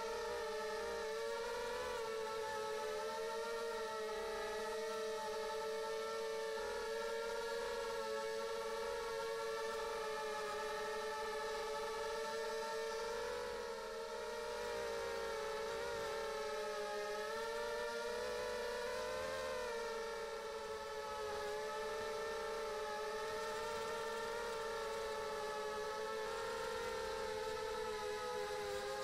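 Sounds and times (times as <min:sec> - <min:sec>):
quadcopter motors whining: 0:00.2 - 0:29.0.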